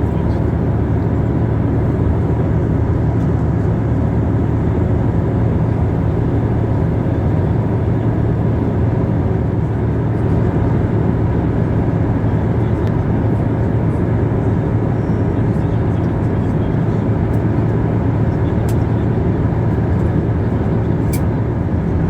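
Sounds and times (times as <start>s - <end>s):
airliner cabin engine drone: 0.0s - 22.0s.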